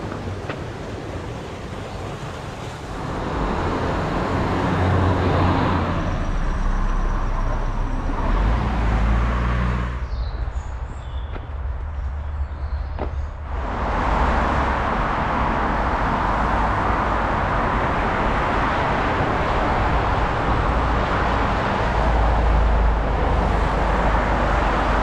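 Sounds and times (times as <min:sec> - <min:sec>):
road traffic rumble with tyre hiss: 0:00.0 - 0:25.0.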